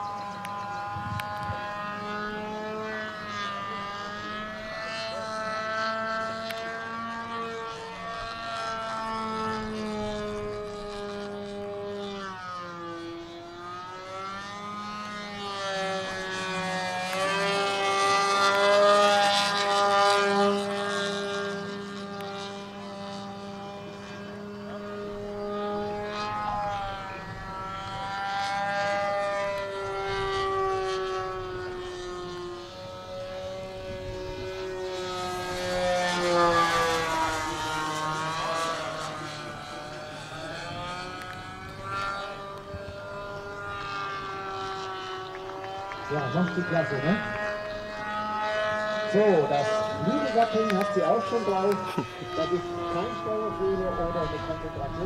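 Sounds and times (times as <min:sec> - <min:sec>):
model airplane engine and propeller: 0:00.0 - 0:55.0.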